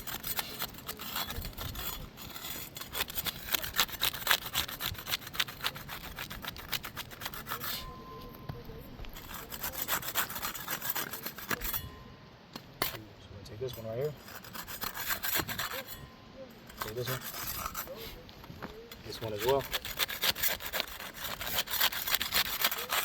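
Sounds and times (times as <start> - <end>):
putty knife scraping shingles: 0.0 - 8.3, 9.1 - 11.9, 12.8 - 13.0, 13.8 - 18.2, 18.9 - 23.0.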